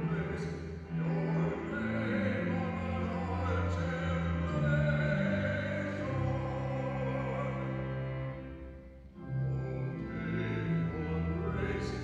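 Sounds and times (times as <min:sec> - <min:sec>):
man singing liturgical chant: 0:00.0 - 0:07.8, 0:10.2 - 0:12.0.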